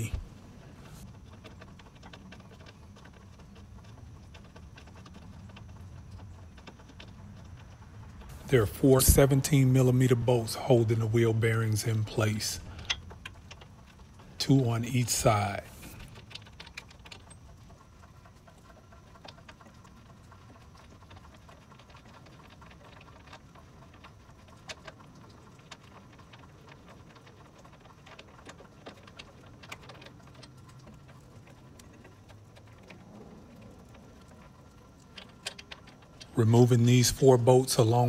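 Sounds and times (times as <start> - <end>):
light clicks and taps: 0.0 - 38.0
low steady hum: 0.0 - 38.0.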